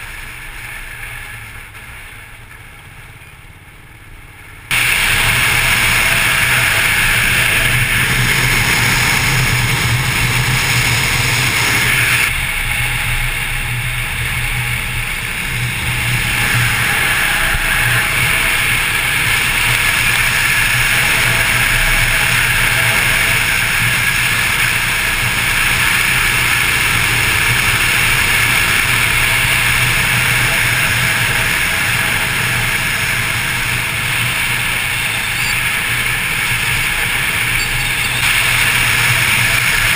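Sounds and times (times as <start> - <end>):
motorcycle engine drone: 0.0 - 39.9
wind rush on microphone: 4.7 - 39.9.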